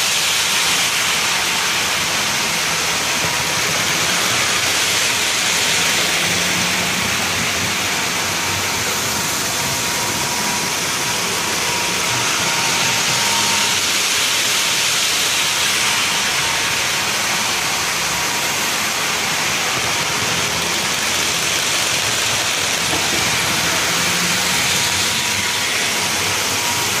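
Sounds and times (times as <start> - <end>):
model train wheels rolling: 0.0 - 27.0.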